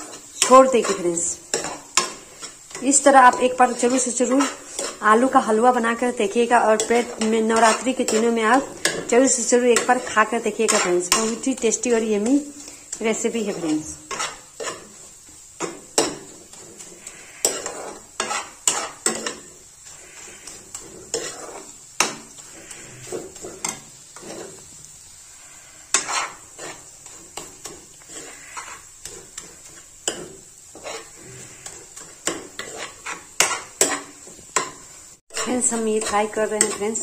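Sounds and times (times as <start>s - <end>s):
low sizzle: 0.0s - 37.0s
spoon scraping metal pan: 0.0s - 37.0s.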